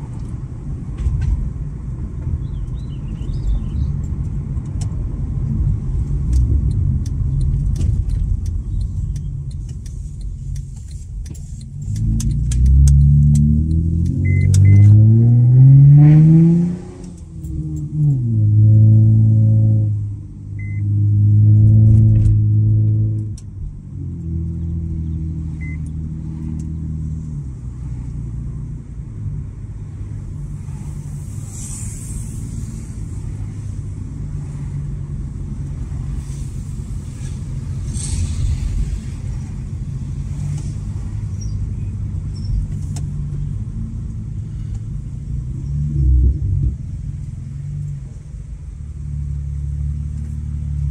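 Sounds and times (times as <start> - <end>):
loud car exhaust drone: 5.6 - 50.9.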